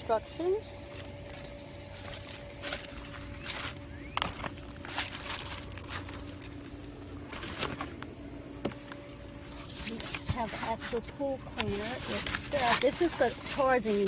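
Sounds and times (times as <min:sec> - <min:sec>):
faint steady hum: 0:00.0 - 0:14.0
packaging rustling: 0:00.9 - 0:08.1, 0:08.9 - 0:14.0.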